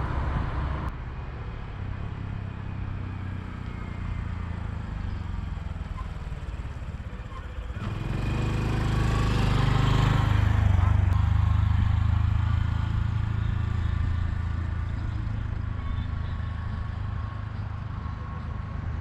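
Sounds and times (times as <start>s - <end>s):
motorcycle engine running: 3.8s - 19.0s.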